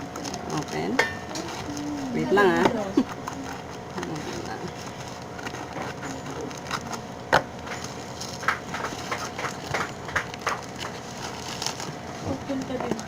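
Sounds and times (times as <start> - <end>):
packaging crackling and crinkling: 0.0 - 13.0.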